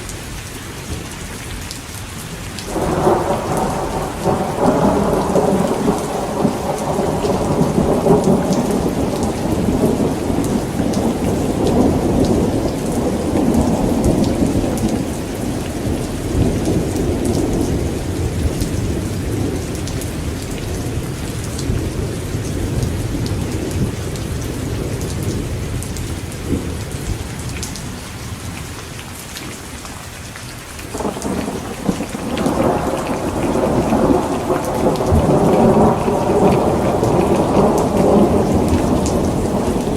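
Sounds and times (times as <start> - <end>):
steady rain: 0.0 - 39.9
rolling thunder: 2.7 - 27.7, 30.9 - 39.9.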